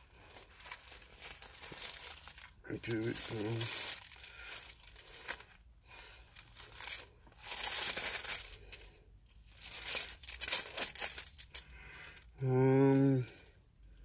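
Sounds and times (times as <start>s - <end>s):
paper rustling and crinkling: 0.0s - 5.6s, 6.3s - 12.3s.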